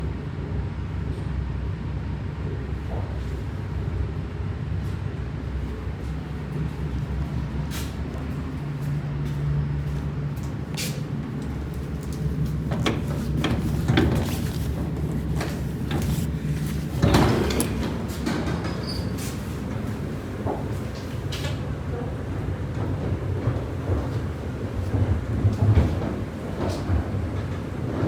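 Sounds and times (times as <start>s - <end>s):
electric train rumbling and humming: 0.0s - 28.0s.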